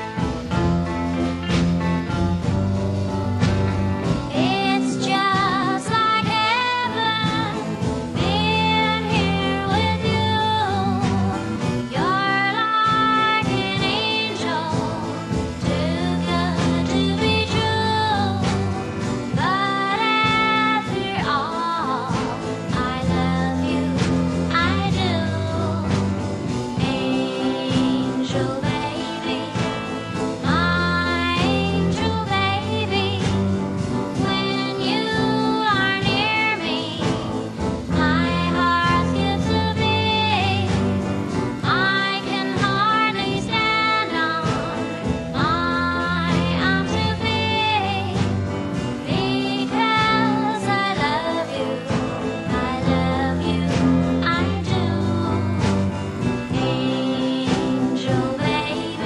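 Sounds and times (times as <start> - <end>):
slow band with guitar: 0.0 - 59.0
woman singing: 4.1 - 59.0.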